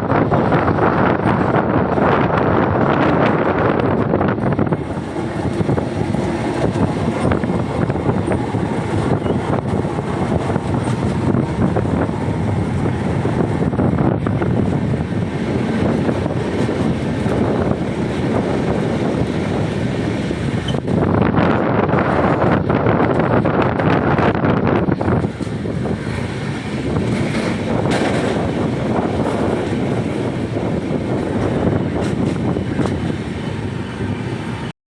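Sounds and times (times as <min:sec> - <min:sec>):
passenger train rumbling: 0:00.0 - 0:34.7
wind buffeting microphone: 0:00.0 - 0:34.7.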